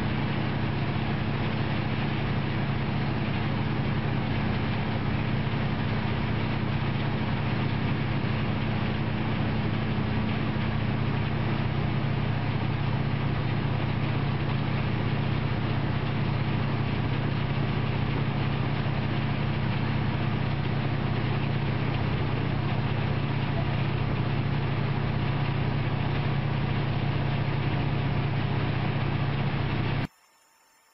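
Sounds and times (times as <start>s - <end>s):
low mechanical drone: 0.0s - 30.9s.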